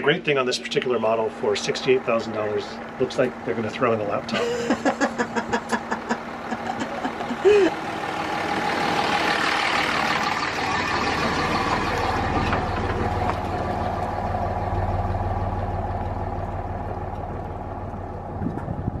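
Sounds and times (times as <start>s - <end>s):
tires on gravel road: 0.0s - 19.0s
truck engine hum: 0.0s - 19.0s.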